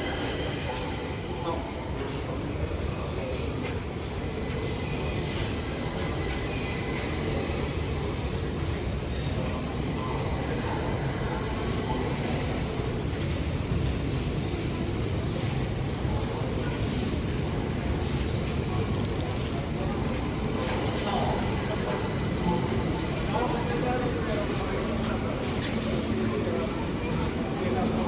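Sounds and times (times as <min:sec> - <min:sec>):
metro train rumbling: 0:00.0 - 0:28.0.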